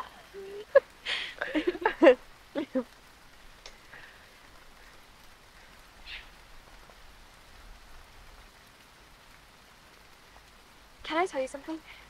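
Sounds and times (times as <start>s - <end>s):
light rain hiss: 0.0s - 12.0s.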